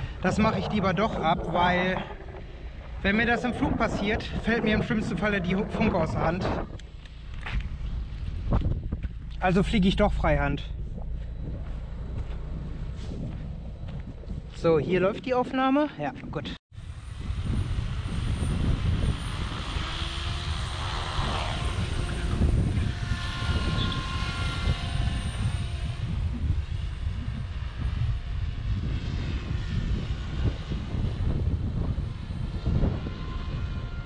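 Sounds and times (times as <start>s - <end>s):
rc helicopter motor whine: 0.0s - 14.5s, 16.8s - 34.0s
wind rumbling on microphone: 0.0s - 34.0s.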